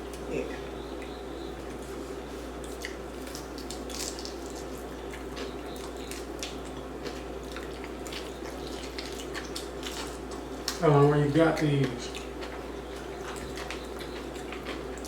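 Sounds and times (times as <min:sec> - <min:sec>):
person chewing crunchy food: 0:01.0 - 0:15.0.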